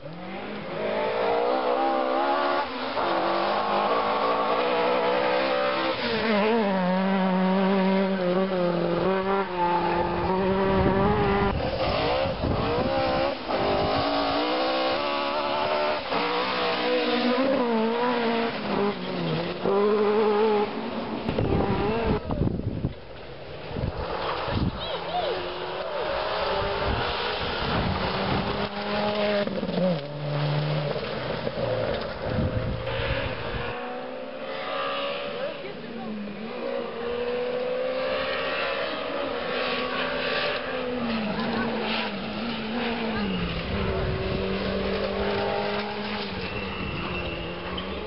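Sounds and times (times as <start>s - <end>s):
rally car engine at full throttle: 0.0s - 48.0s.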